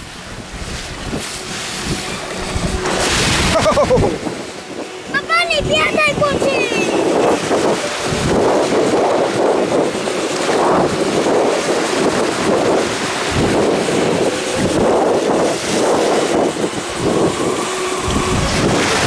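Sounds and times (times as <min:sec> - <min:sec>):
ocean waves: 0:00.0 - 0:19.0
wind buffeting microphone: 0:00.0 - 0:19.0.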